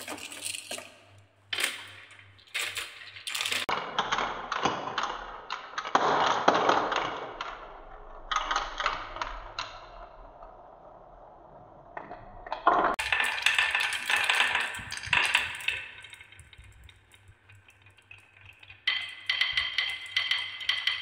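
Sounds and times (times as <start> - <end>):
marbles clattering down wooden run: 0.0 - 9.7, 12.6 - 21.0.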